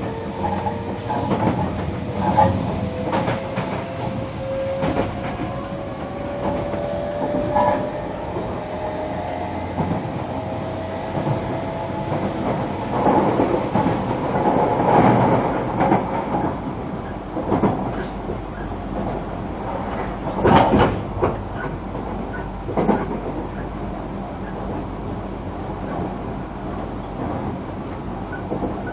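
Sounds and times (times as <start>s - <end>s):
train running rumble: 0.0s - 28.9s.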